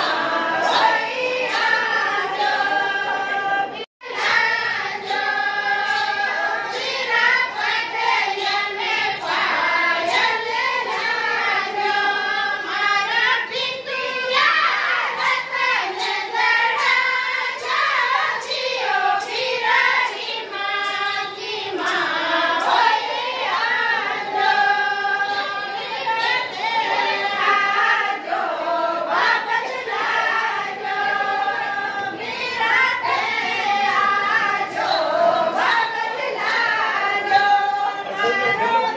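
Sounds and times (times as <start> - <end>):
women singing folk song: 0.0 - 38.9.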